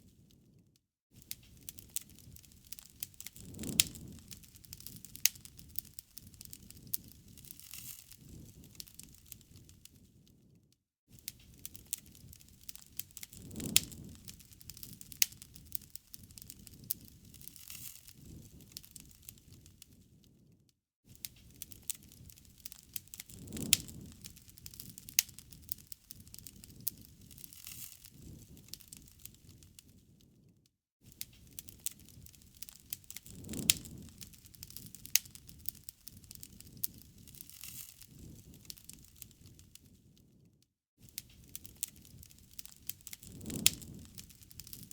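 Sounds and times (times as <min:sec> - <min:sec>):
wood fire crackling: 0:01.2 - 0:10.5, 0:11.1 - 0:20.5, 0:21.1 - 0:30.4, 0:31.0 - 0:44.9.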